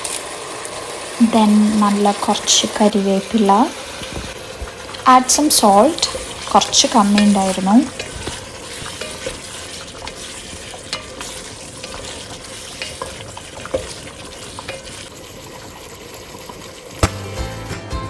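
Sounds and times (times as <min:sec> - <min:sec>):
beef sizzling in a pot: 0:00.0 - 0:18.0.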